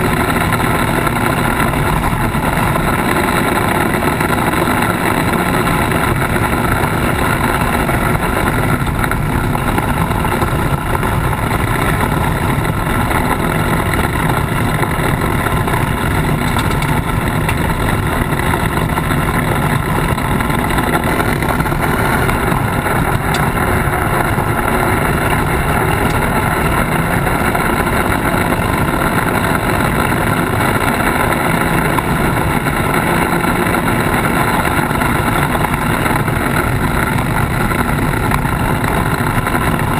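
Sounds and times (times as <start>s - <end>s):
tyres on gravel track: 0.0s - 39.9s
vehicle engine drone: 0.0s - 39.9s.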